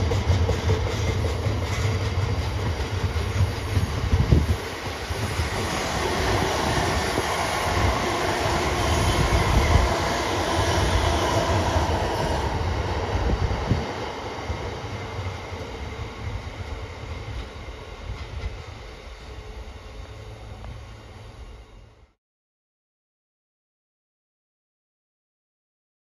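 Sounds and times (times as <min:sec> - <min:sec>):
train wheels rumbling on rails: 0:00.0 - 0:22.2.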